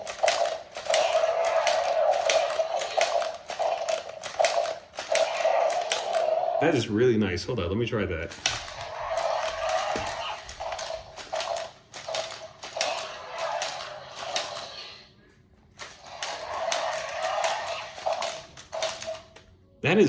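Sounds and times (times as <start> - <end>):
plastic toy clicking and clattering: 0.0 - 6.3, 8.3 - 14.9, 15.8 - 19.4.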